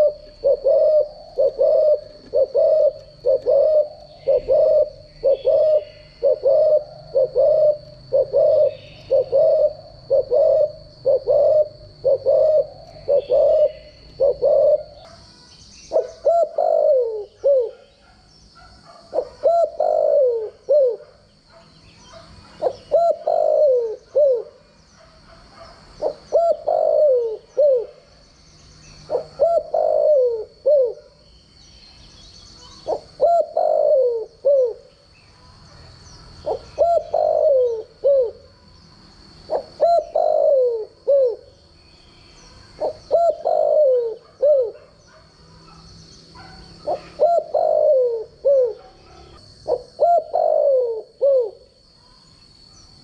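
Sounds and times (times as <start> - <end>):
dove cooing: 0.0 - 15.3, 15.9 - 21.5, 22.1 - 28.2, 29.0 - 31.2, 32.5 - 35.1, 36.4 - 38.6, 39.2 - 41.6, 42.5 - 52.0.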